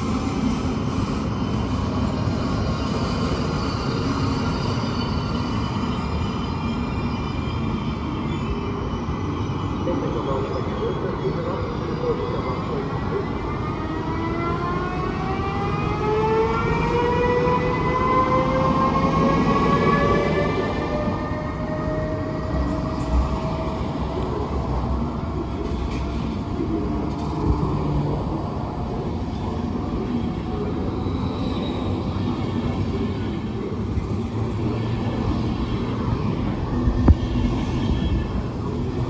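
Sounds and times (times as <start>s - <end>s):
electric locomotive whine: 0.0s - 39.0s
train coaches rumbling past: 0.0s - 39.0s.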